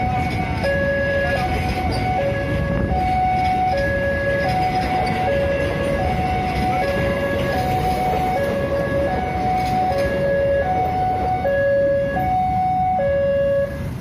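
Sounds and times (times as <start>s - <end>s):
level crossing two-tone alarm: 0.0s - 13.9s
train cars rolling on rails: 0.0s - 14.0s.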